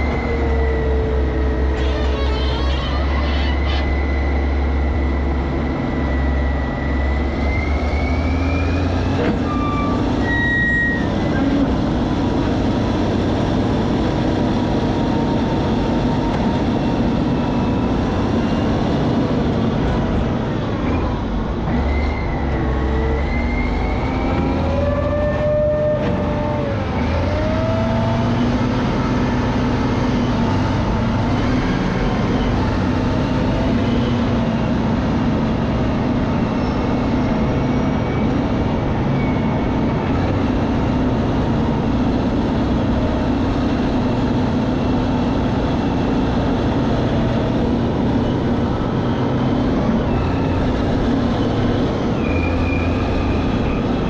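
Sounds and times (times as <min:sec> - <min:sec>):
heavy diesel engines rumbling: 0:00.0 - 0:54.0.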